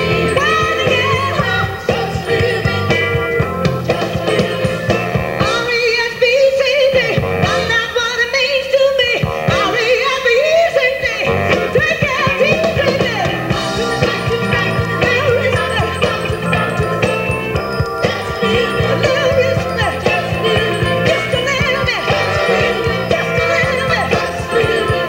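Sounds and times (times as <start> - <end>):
live rock and soul band: 0.0 - 25.0
woman singing lead: 0.0 - 25.0.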